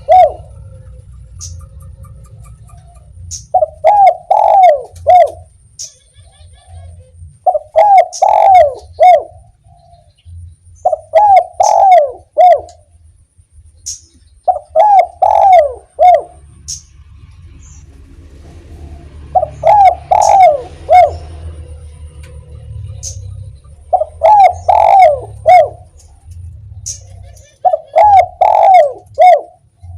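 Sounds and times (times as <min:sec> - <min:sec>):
dove cooing: 0:00.0 - 0:13.0, 0:13.9 - 0:16.8, 0:18.6 - 0:29.9.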